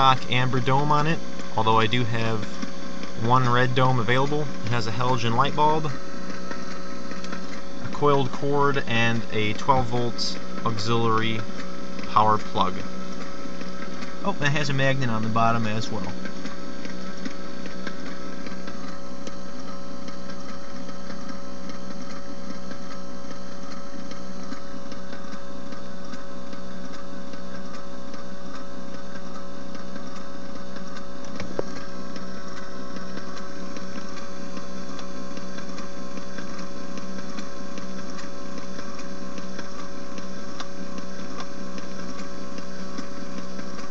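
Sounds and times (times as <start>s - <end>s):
rotating beacon motor whirring: 0.0s - 43.9s.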